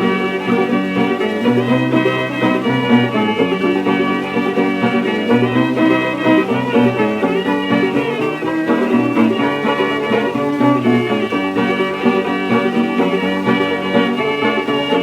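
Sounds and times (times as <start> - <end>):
fiddle playing a tune: 0.0 - 15.0
guitar accompaniment: 0.0 - 15.0.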